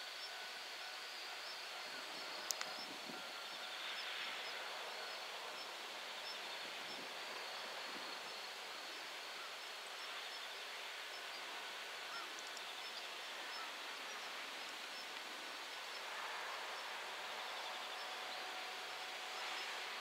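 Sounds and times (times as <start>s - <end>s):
steady hiss: 0.0s - 20.0s
insects chirping: 0.1s - 20.0s.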